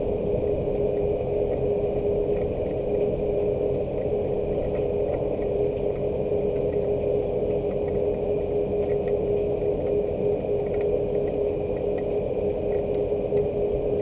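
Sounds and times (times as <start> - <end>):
constant mechanical hum: 0.0 - 14.0
faint drip ticks: 0.0 - 14.0.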